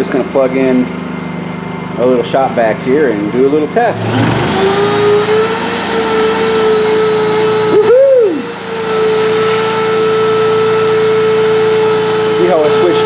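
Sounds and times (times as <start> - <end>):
generator engine running: 0.0 - 13.0
shop vacuum motor whine: 0.0 - 13.0.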